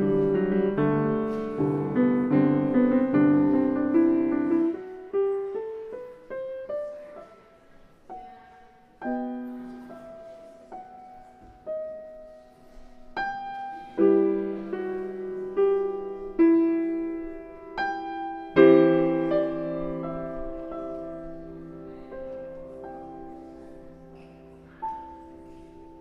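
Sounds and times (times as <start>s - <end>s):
slow solo piano: 0.0s - 26.0s.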